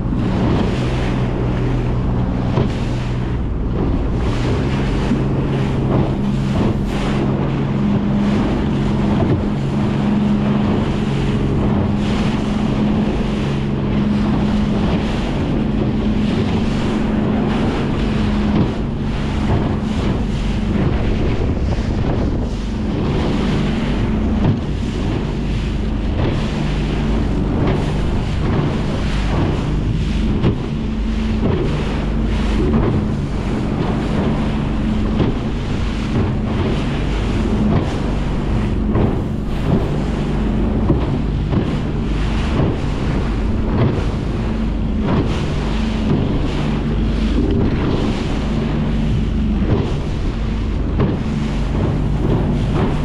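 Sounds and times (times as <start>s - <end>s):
hull thudding on waves: 0.0s - 53.0s
outboard motor running: 0.0s - 53.0s
wind buffeting microphone: 0.0s - 53.0s.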